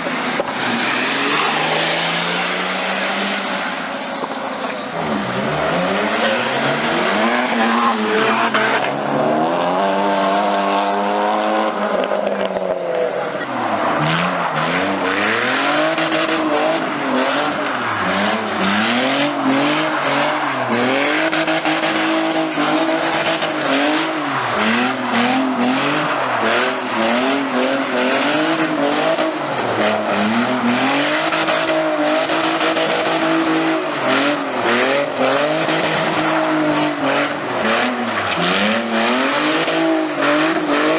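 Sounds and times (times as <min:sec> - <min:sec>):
tyres squealing and skidding: 0:00.0 - 0:10.4, 0:13.1 - 0:40.9
car engine revving hard: 0:00.0 - 0:40.9.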